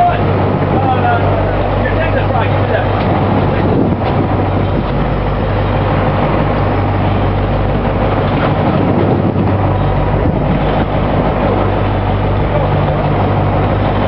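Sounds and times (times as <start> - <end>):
boat engine humming: 0.0 - 14.0
wind and water rushing: 0.0 - 14.0.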